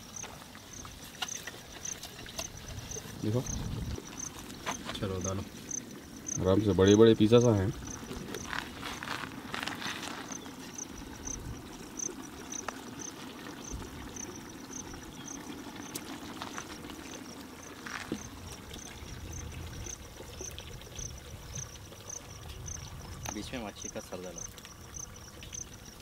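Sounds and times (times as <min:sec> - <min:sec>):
curry bubbling in pot: 0:00.0 - 0:26.0
insect chirping: 0:00.0 - 0:26.0.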